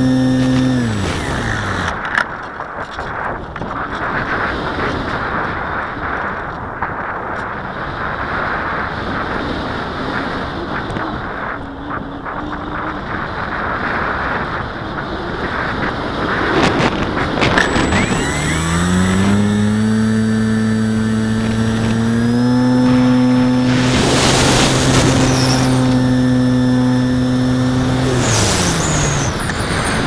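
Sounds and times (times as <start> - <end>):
electric motor and propeller whine: 0.0 - 30.0
wind noise on microphone: 0.0 - 30.0.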